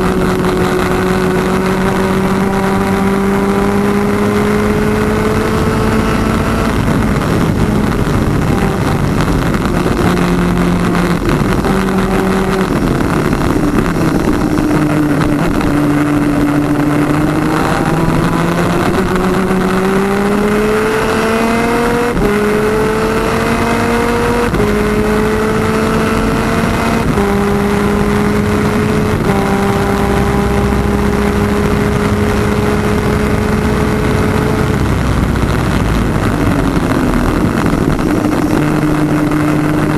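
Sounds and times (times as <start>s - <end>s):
kart two-stroke engines racing: 0.0s - 39.9s.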